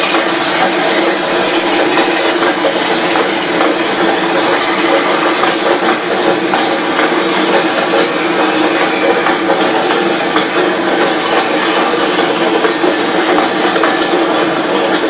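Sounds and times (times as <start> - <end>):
rattling freight cars: 0.0 - 15.0
train wheels running on rails: 0.0 - 15.0.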